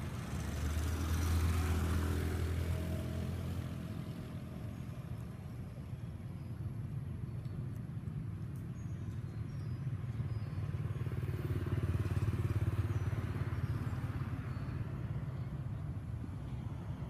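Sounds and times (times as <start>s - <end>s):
passing vehicle engine rumble: 0.0s - 17.0s.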